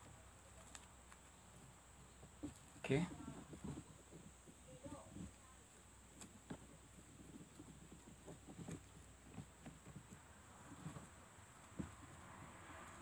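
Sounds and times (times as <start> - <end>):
rope rustling and clicking: 0.0 - 13.0.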